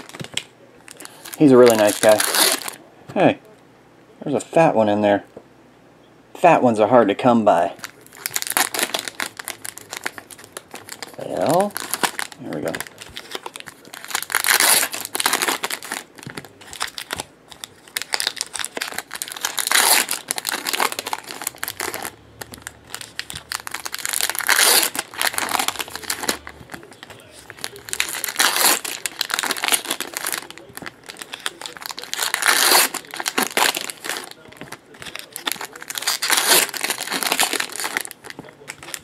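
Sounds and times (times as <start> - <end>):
foil packs tearing open: 0.0 - 2.8, 7.8 - 39.0
foil wrappers rustling: 0.0 - 2.8, 7.6 - 39.0.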